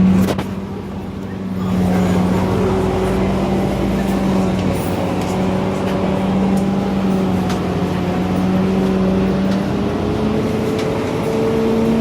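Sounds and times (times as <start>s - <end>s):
bus drivetrain hum: 0.0s - 12.0s
road noise: 0.0s - 12.0s.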